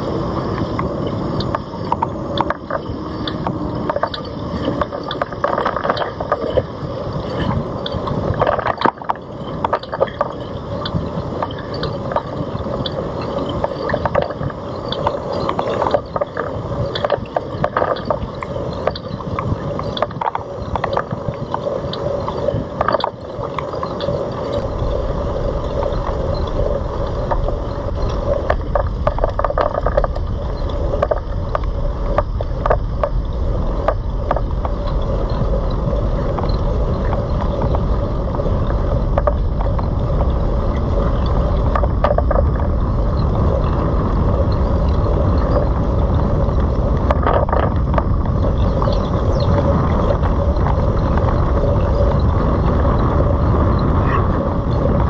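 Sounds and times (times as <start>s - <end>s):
bicycle rattling and clicking: 0.0s - 55.0s
low rumble: 0.0s - 55.0s.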